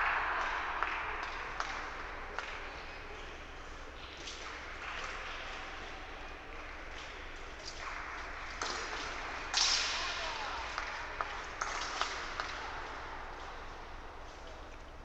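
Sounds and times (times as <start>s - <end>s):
voices in a hall: 0.0s - 15.0s.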